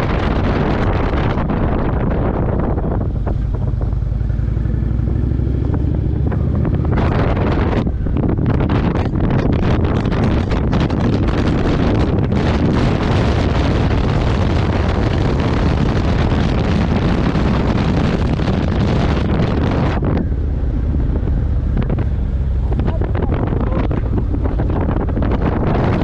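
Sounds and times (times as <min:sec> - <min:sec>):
motorcycle engine: 0:00.0 - 0:26.0
road noise: 0:00.0 - 0:26.0
wind buffeting microphone: 0:00.0 - 0:26.0.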